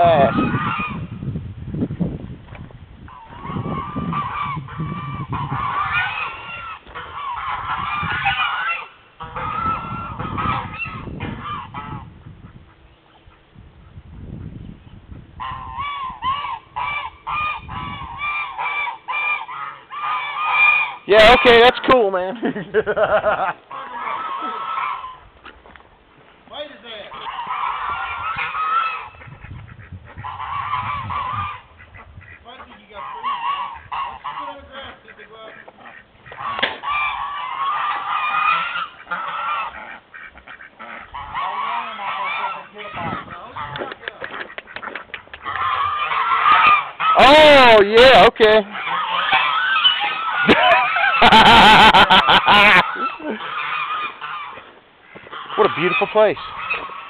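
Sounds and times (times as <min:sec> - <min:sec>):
geese honking: 0:00.0 - 0:01.2, 0:03.1 - 0:13.5, 0:14.4 - 0:25.6, 0:26.5 - 0:57.0.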